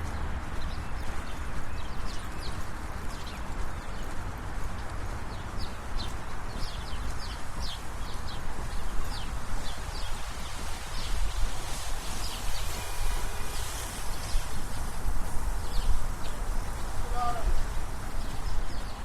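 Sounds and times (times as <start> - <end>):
brisk footsteps: 0.0 - 19.0
low traffic rumble: 0.0 - 19.0
small birds chirping: 0.0 - 19.0.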